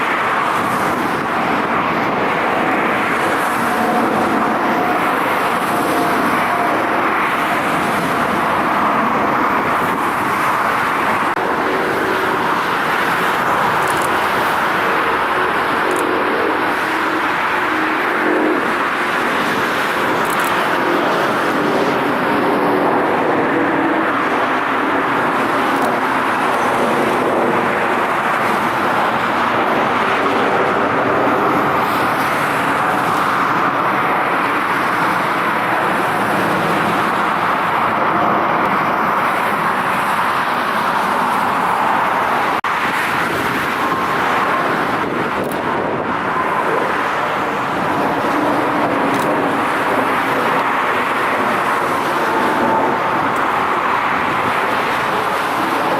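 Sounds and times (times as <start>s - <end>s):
jet airliner engine roar: 0.0s - 55.9s.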